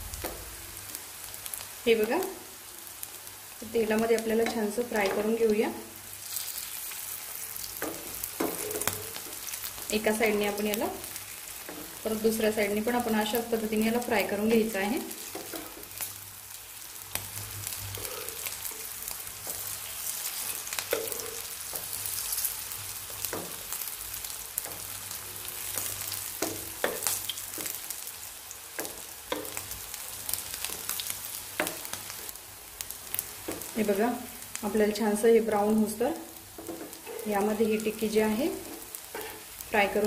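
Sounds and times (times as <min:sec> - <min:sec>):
oil sizzling in a pan: 0:00.0 - 0:40.0.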